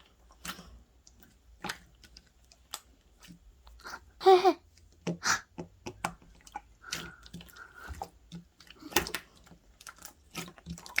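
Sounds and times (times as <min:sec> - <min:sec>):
wet chewing sounds: 0:00.0 - 0:11.0.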